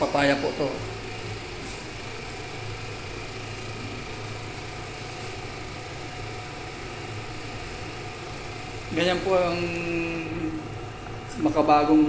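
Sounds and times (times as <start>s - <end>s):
low mechanical hum with hiss: 0.0s - 12.0s.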